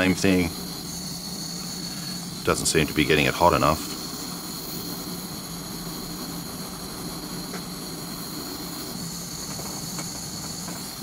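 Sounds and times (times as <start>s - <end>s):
butane torch hissing: 0.0s - 11.0s.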